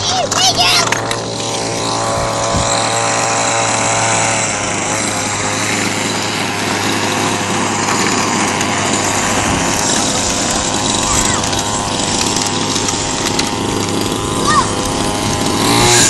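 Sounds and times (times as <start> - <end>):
toy car motor buzzing: 0.0 - 16.0.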